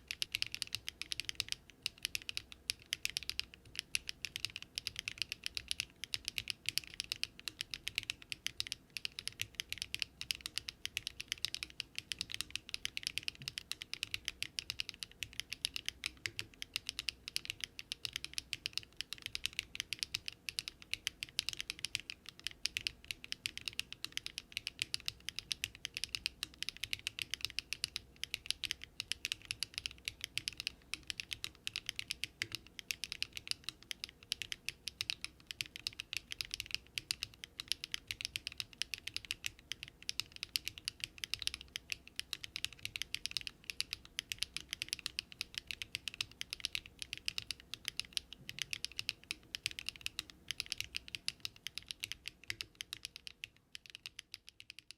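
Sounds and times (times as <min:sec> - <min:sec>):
fast typing on mechanical keyboard: 0:00.0 - 0:54.9.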